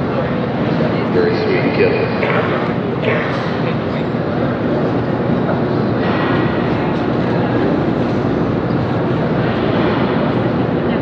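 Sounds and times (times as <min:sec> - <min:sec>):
crowd murmuring: 0:00.0 - 0:11.0
hall background hum: 0:00.0 - 0:11.0.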